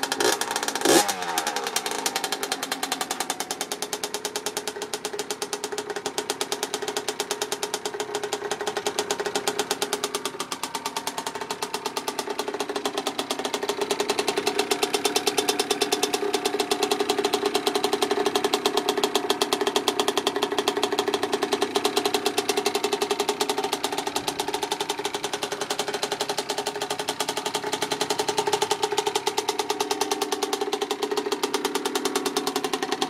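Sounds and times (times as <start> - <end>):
two-stroke motorcycle engine running: 0.0 - 33.0.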